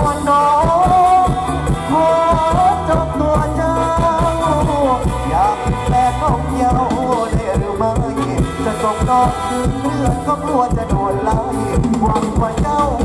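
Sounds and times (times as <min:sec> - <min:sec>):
bass: 0:00.0 - 0:13.0
person singing: 0:00.0 - 0:13.0
steady drum beat: 0:00.0 - 0:13.0.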